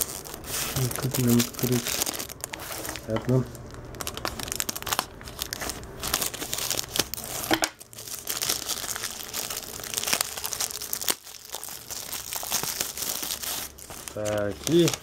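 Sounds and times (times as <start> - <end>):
plastic film crinkling and tearing: 0.0 - 15.0.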